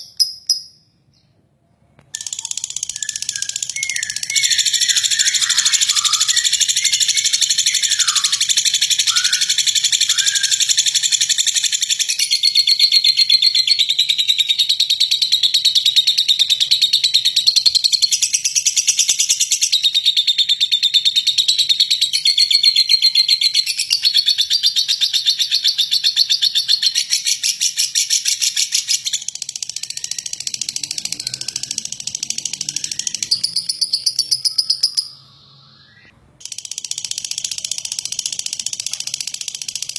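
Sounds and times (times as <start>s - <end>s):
lovebird chattering trill: 0.0s - 0.8s, 2.2s - 39.9s.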